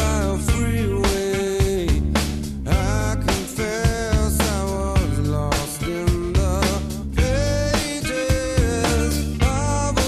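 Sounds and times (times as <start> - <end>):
rock song with guitar: 0.0 - 10.0.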